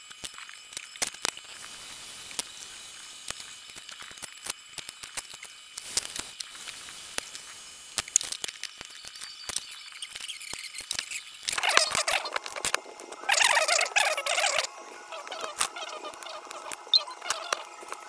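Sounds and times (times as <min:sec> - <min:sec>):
rotary grinder hissing: 0:01.2 - 0:18.0
sharp clicks and ticks: 0:03.2 - 0:18.0.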